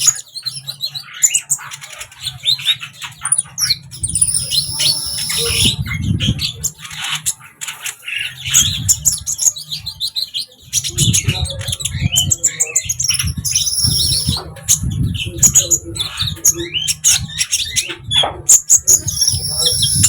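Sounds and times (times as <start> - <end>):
bird chirps and trills: 0.0 - 20.0.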